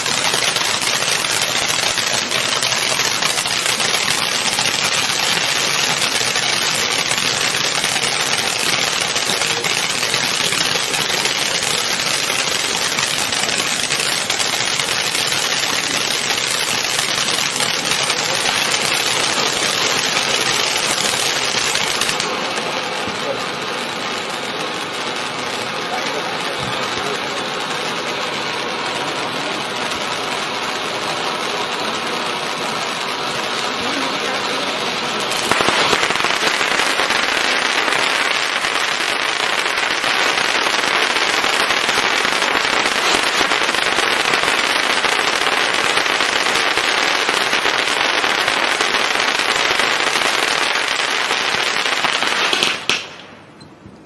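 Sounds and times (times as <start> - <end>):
firework crackling: 0.0 - 53.6
firework fountain spraying sparks: 0.0 - 53.6.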